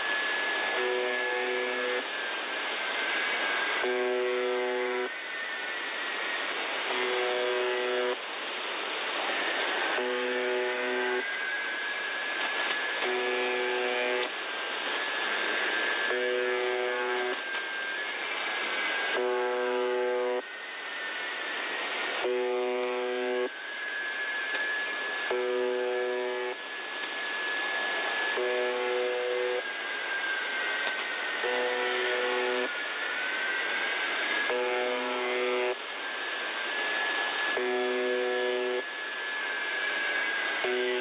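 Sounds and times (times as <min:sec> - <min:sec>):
harsh radio buzz tone: 0:00.0 - 0:02.3, 0:02.9 - 0:08.2, 0:09.2 - 0:14.3, 0:15.1 - 0:41.0
radio static hiss: 0:00.0 - 0:41.0.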